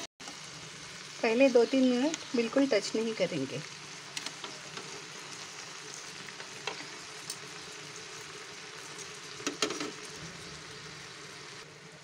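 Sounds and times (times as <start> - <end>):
meat sizzling in hot oil: 0.2 - 12.0.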